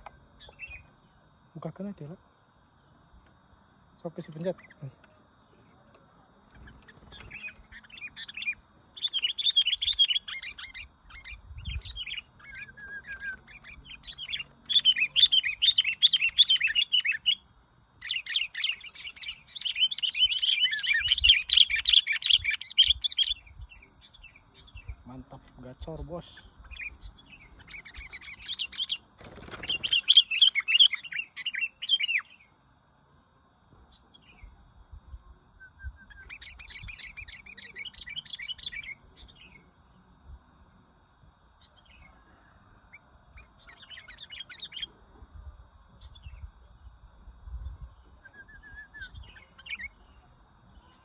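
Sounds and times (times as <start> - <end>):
songbird chirping and trilling: 0.0 - 32.7, 33.7 - 51.0.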